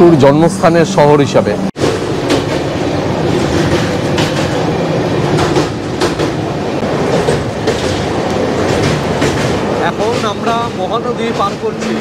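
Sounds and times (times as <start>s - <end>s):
train wheels rumbling on rails: 1.8s - 12.0s.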